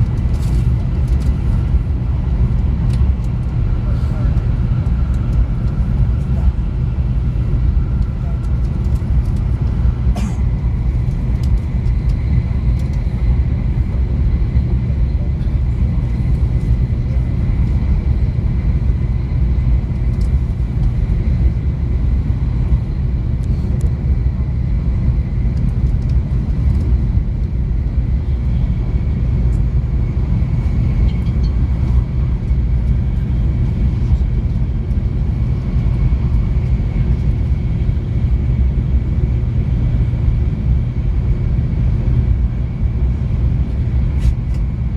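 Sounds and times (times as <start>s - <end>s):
vehicle rumbling in motion: 0.0s - 44.9s.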